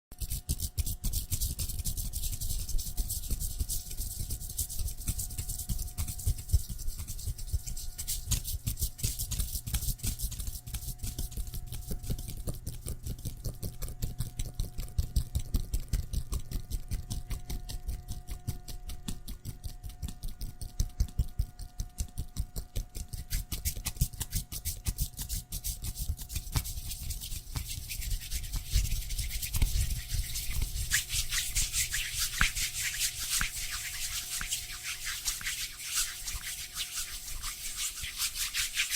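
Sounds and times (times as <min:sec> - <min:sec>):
rapid scratching or brushing strokes: 0:00.2 - 0:15.5, 0:23.0 - 0:38.9
faint steady hum: 0:00.2 - 0:38.9.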